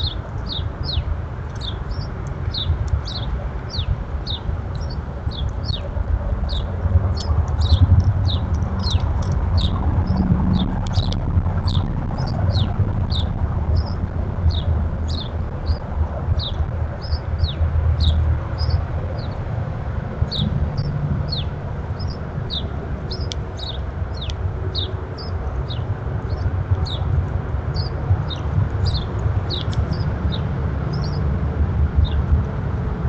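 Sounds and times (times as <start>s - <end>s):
small birds chirping: 0.0s - 19.5s, 20.2s - 31.3s, 32.0s - 32.3s
steady low rumble: 0.0s - 33.0s.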